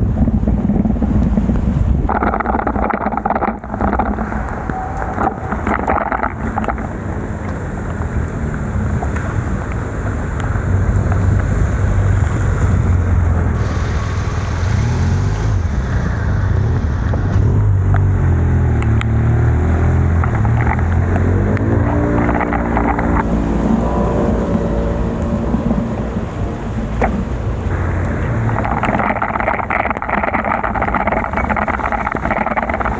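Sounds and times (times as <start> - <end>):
traffic: 0.0 - 32.9
vehicle engine speeding up: 0.0 - 32.9
wind rumble on microphone: 0.0 - 32.9.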